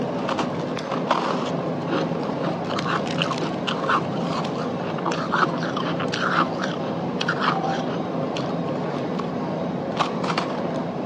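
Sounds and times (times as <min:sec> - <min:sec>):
crunchy chewing: 0:00.0 - 0:09.4.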